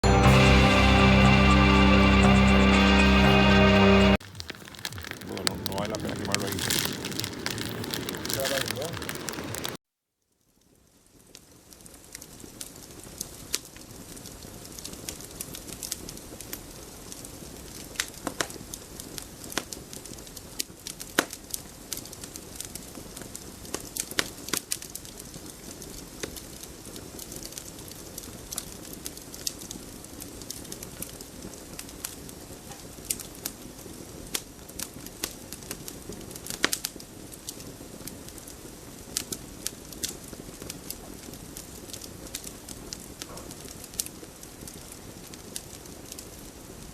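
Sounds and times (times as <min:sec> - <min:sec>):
wood fire crackling: 0:00.0 - 0:09.8, 0:11.1 - 0:46.9.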